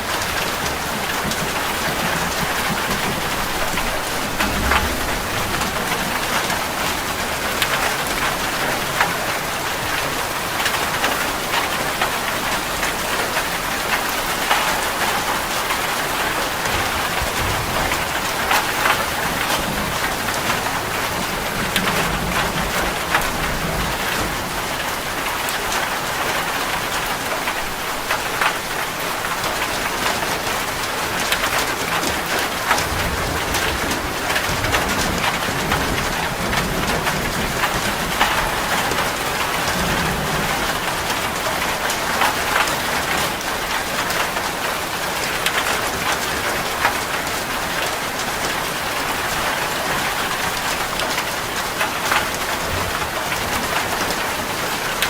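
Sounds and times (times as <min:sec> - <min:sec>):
rain ticking on hard surface: 0:00.0 - 0:55.0.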